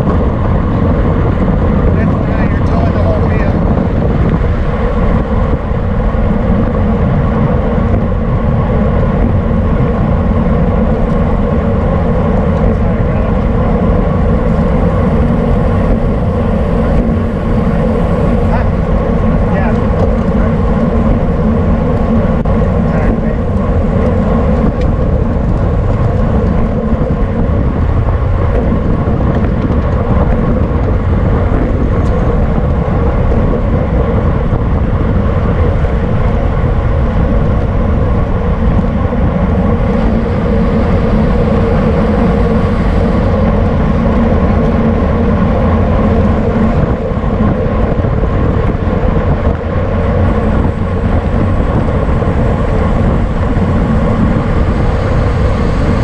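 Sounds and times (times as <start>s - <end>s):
faint hum from bike: 0.0s - 56.0s
wind rush on microphone: 0.0s - 56.0s.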